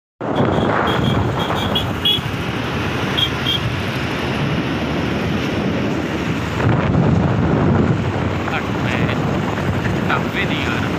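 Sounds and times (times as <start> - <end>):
road noise rumble: 0.2 - 10.9
wind on microphone: 0.2 - 10.9.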